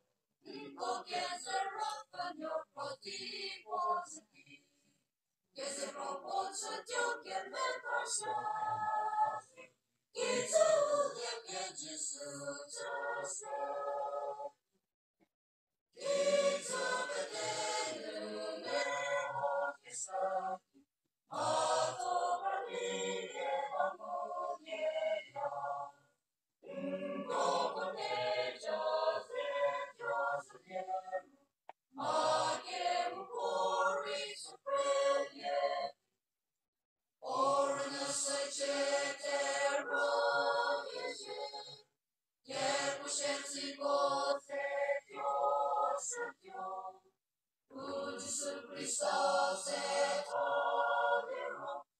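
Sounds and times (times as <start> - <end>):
mixed choir singing in parts: 0.5 - 4.2, 5.6 - 14.5, 16.0 - 20.6, 21.3 - 25.9, 26.6 - 31.3, 32.0 - 36.0, 37.2 - 41.8, 42.5 - 47.0, 47.7 - 51.9.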